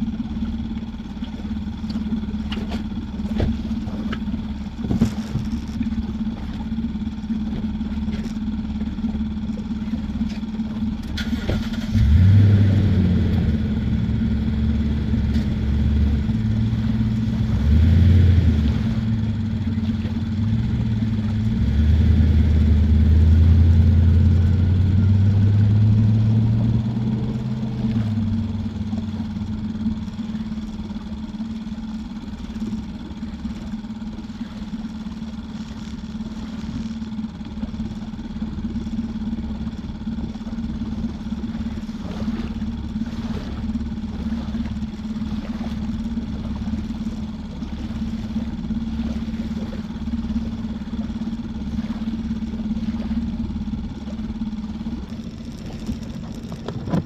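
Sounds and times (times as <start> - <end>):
deep rumble: 0.0 - 57.0
outboard motor running: 0.0 - 57.0.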